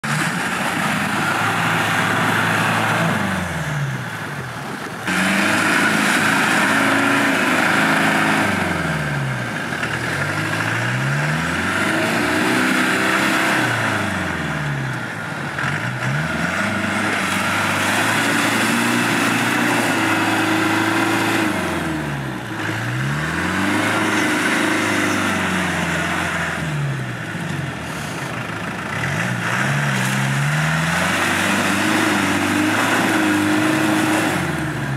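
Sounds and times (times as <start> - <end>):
engine revving: 0.0 - 34.9.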